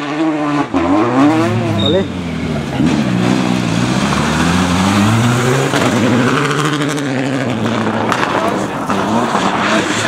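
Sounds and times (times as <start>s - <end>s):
car engine accelerating hard: 0.0s - 10.0s
tyre and road noise: 0.0s - 10.0s.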